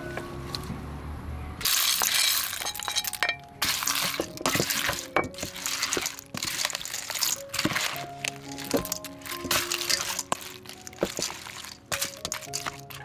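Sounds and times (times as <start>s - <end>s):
shells rattling in a metal bowl: 1.6s - 13.0s.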